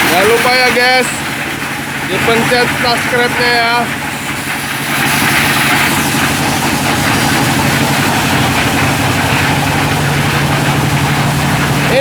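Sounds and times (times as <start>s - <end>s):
grinding machine motor humming: 0.0s - 12.0s.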